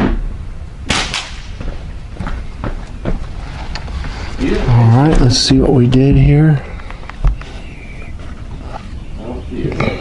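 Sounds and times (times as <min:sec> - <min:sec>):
low steady rumble: 0:00.0 - 0:09.7.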